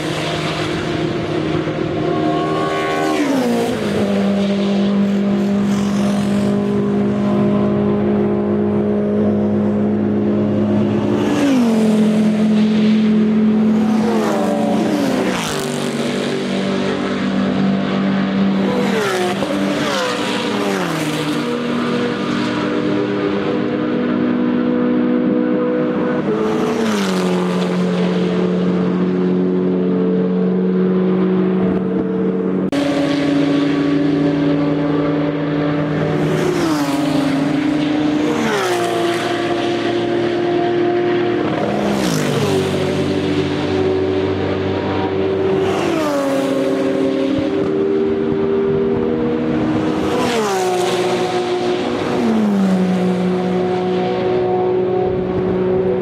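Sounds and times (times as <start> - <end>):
race cars passing at full throttle: 0.0 - 56.0.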